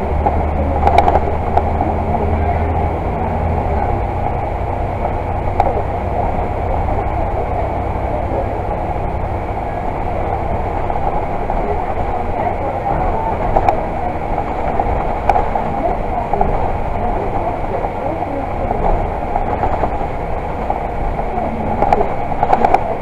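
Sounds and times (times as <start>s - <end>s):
bus body rattles: 0.0s - 23.0s
bus engine and road rumble: 0.0s - 23.0s.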